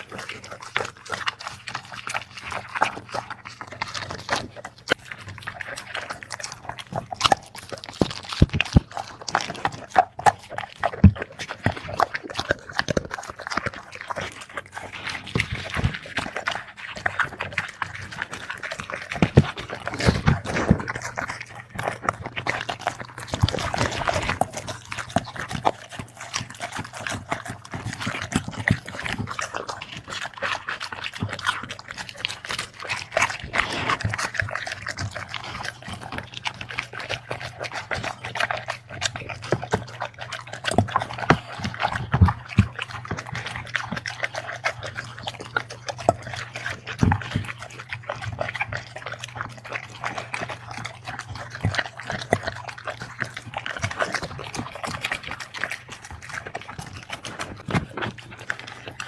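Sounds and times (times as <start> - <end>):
dog chewing and licking: 0.0 - 59.0.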